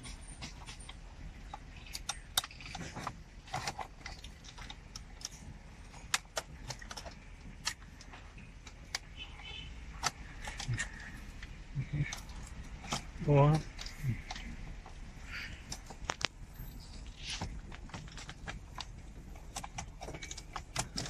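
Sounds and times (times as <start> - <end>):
plastic connectors clicking and rattling: 0.4 - 16.4, 17.0 - 21.0.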